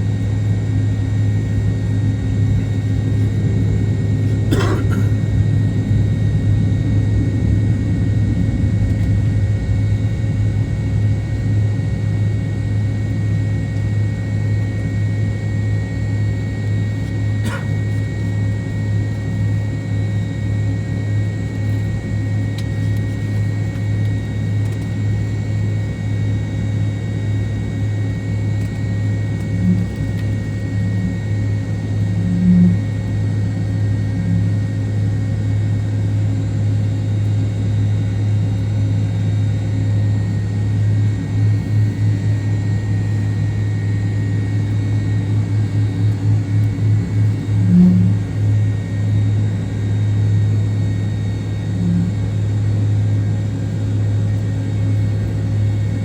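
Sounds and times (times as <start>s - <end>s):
airliner cabin drone: 0.0s - 56.0s.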